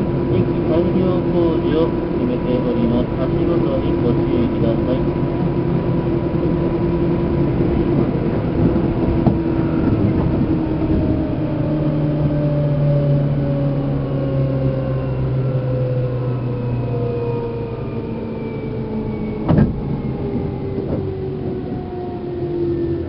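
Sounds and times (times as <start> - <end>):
traction motor whine: 0.0 - 23.0
wheel and rail rumble: 0.0 - 23.0.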